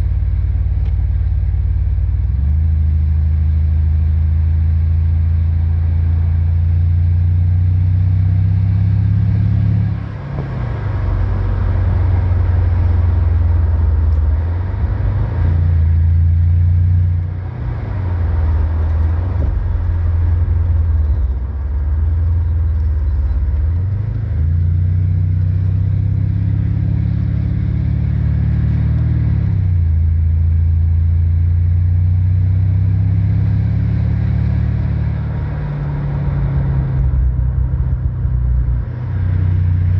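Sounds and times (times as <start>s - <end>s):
car engine exhaust note: 0.0s - 39.9s.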